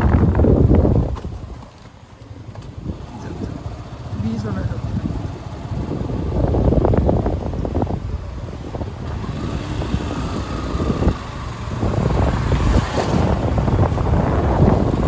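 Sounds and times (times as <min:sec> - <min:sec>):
motorcycle engine rumble: 0:00.0 - 0:15.0
wind buffeting microphone: 0:00.0 - 0:15.0.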